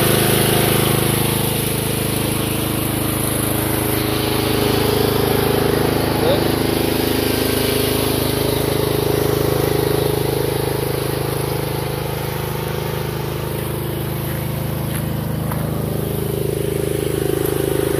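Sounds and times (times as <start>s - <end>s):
small engine running steadily: 0.0s - 17.9s.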